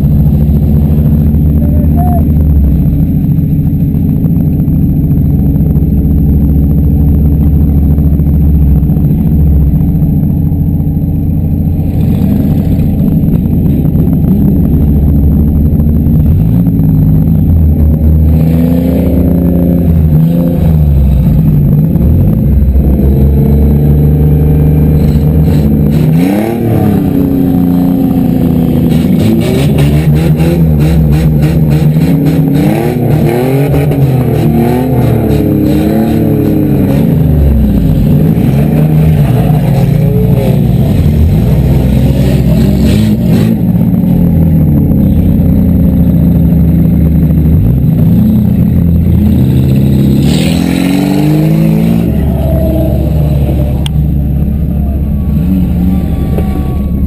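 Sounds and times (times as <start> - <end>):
car engines revving loudly: 0.0 - 57.0.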